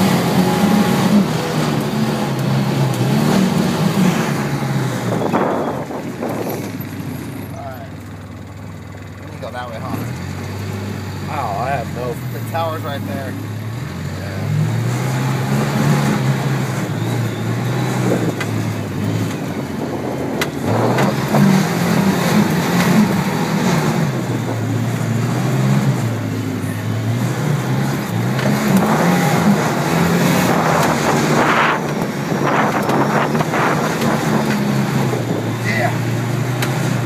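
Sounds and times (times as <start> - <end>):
off-road vehicle engine: 0.0 - 37.0.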